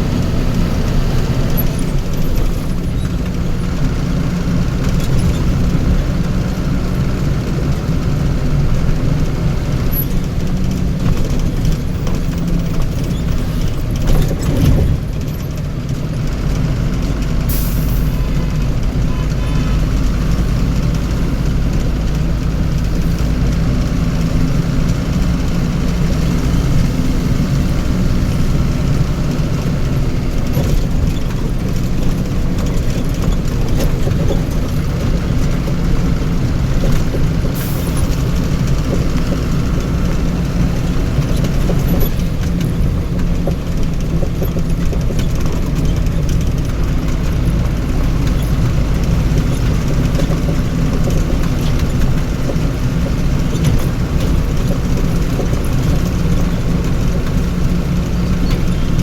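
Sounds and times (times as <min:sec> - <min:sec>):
road noise: 0:00.0 - 0:59.0
vehicle engine droning: 0:00.0 - 0:59.0.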